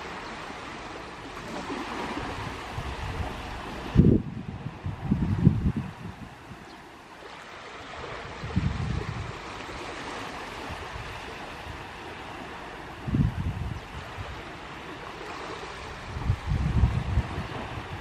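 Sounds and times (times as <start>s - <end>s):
sea waves washing onto beach: 0.0s - 18.0s.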